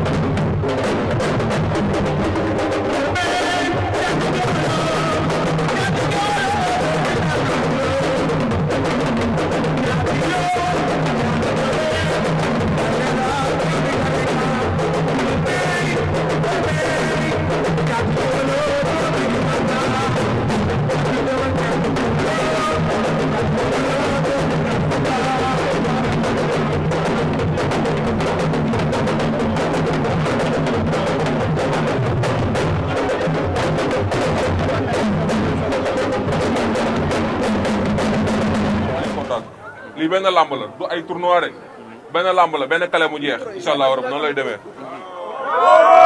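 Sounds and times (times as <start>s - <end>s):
drums and percussion music: 0.0s - 40.5s.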